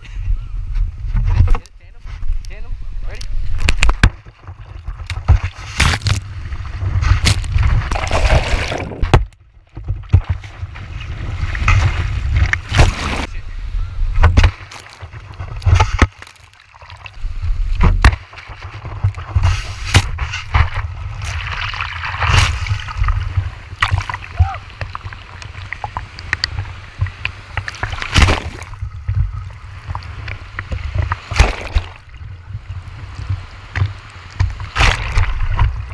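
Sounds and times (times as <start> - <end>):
deep rumble on camera housing: 0.0 - 35.9
water splashing and rushing: 1.2 - 35.9.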